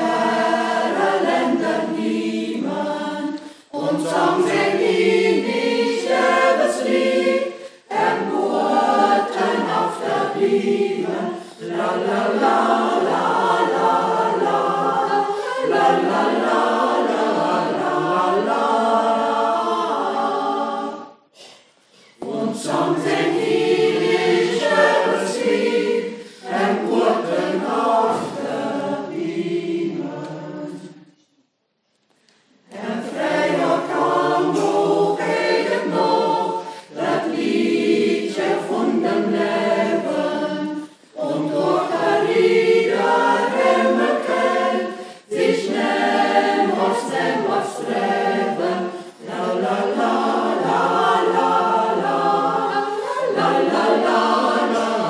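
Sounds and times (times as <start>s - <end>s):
mixed choir singing unaccompanied: 0.0s - 21.3s, 22.0s - 31.2s, 32.6s - 55.0s.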